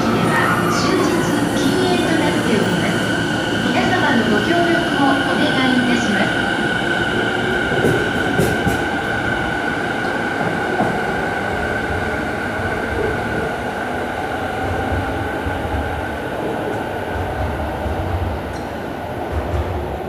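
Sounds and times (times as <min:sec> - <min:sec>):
electric train whine and rumble: 0:00.0 - 0:20.0.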